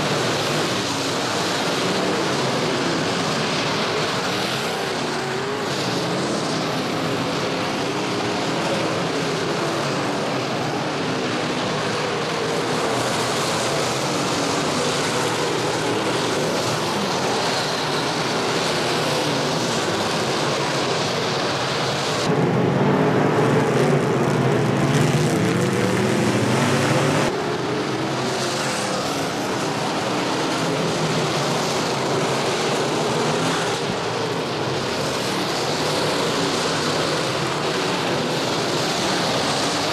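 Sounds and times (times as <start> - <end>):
race car engines racing: 0.0 - 39.9.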